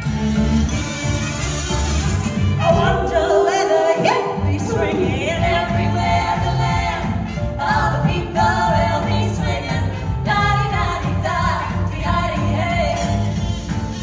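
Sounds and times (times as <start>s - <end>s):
vocal group singing in harmony: 2.6s - 14.0s.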